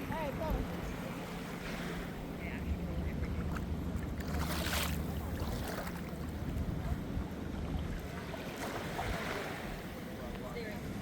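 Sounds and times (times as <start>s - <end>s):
small waves washing in: 0.0s - 11.0s.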